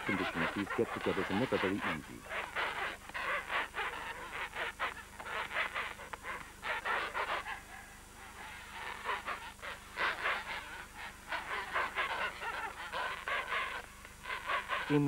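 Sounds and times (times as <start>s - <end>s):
penguins honking calls: 0.0s - 15.0s.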